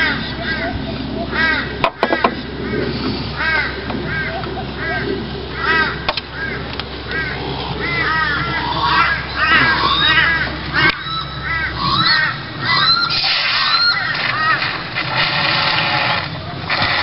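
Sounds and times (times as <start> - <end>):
crows cawing: 0.0 - 14.9.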